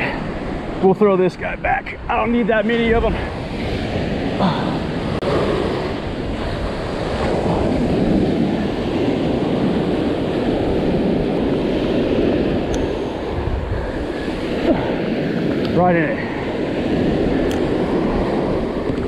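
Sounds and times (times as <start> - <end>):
heavy surf breaking: 0.0 - 19.0
wind noise on microphone: 1.9 - 19.0.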